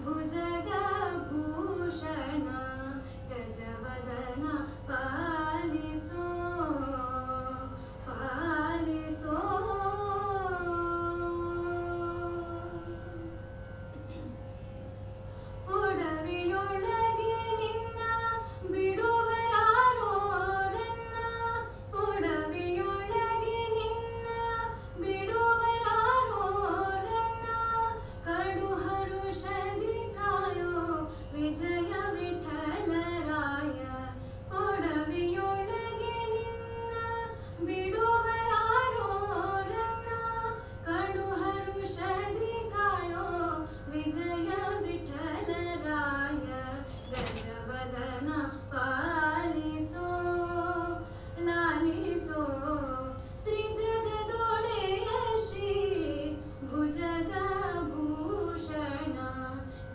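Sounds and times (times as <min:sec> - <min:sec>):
woman singing: 0:00.0 - 0:13.4, 0:15.7 - 0:59.9
steady held drone tone: 0:00.0 - 0:59.9.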